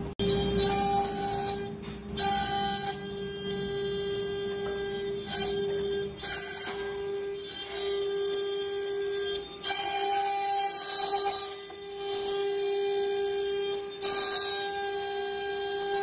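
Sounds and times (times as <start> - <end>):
router spindle whining: 0.0 - 16.0
bit carving wood: 0.2 - 16.0.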